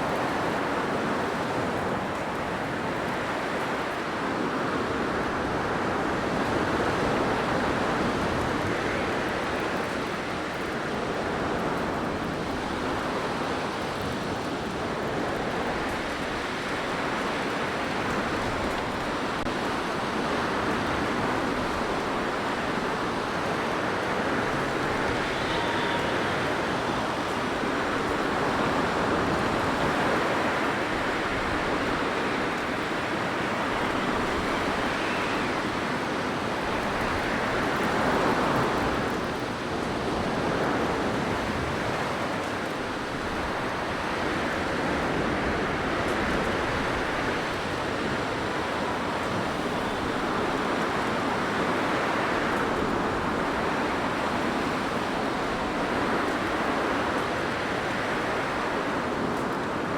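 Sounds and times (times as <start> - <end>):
blizzard wind rushing: 0.0 - 59.9.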